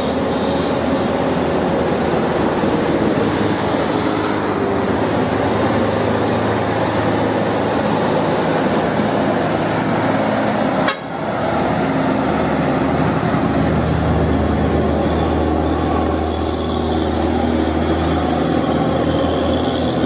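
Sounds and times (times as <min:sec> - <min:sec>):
heavy diesel trucks passing: 0:00.0 - 0:20.0
tyre and road noise: 0:00.0 - 0:20.0.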